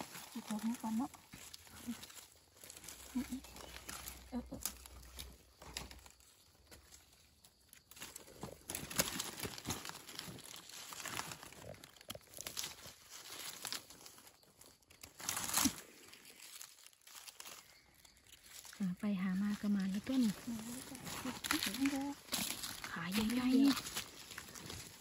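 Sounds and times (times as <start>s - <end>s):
dry leaves and twigs rustling: 0.0s - 25.0s.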